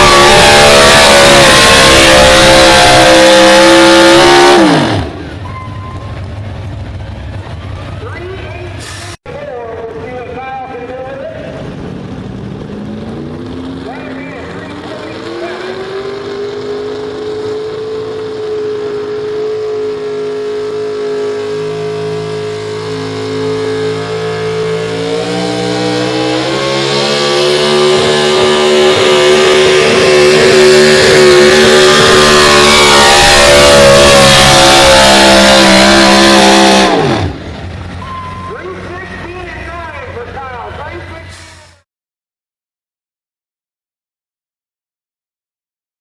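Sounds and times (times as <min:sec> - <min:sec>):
truck engine at high revs: 0:00.0 - 0:41.5.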